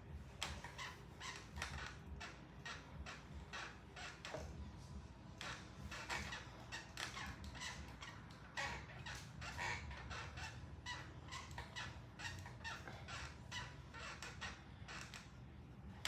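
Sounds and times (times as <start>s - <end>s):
exercise bike squeaking: 0.4s - 4.4s, 5.4s - 15.4s.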